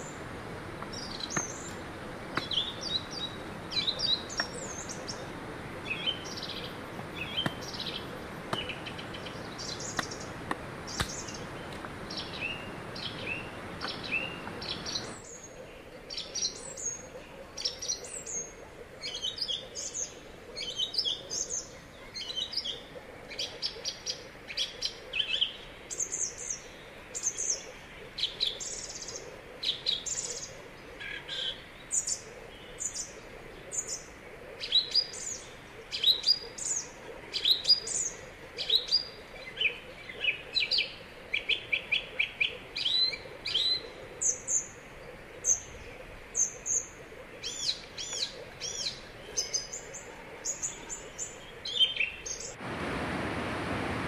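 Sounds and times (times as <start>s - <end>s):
birds chirping: 0.0s - 53.4s
faint background hiss: 0.0s - 54.0s.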